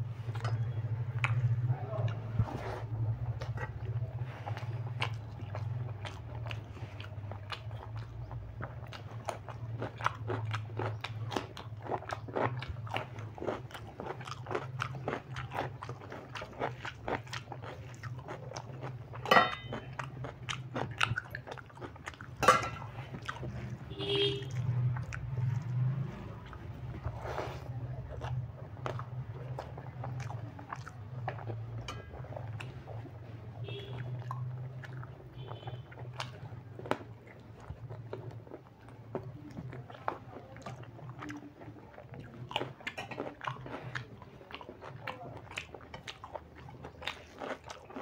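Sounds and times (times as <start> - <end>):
man chewing food: 0.0 - 48.0.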